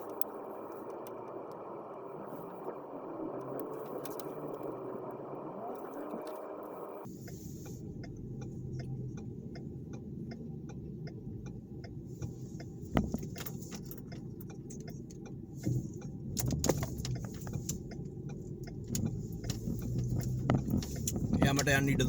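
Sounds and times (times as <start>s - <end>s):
car engine rumbling: 0.0s - 22.0s
turn signal ticking: 0.0s - 22.0s.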